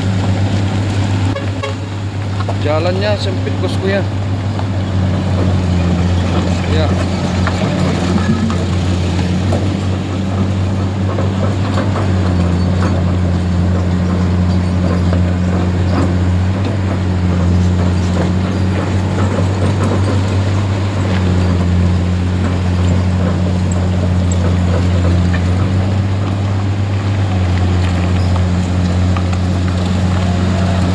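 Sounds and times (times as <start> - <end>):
vehicle engine humming: 0.0 - 30.9.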